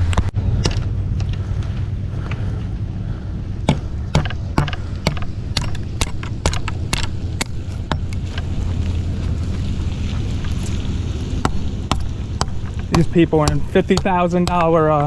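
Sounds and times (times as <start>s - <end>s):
low rumble: 0.0s - 14.6s.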